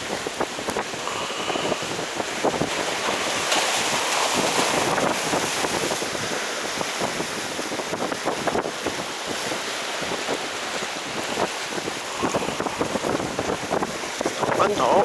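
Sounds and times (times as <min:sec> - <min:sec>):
waves washing at shore: 0:00.0 - 0:15.0
wind buffeting microphone: 0:00.0 - 0:15.0.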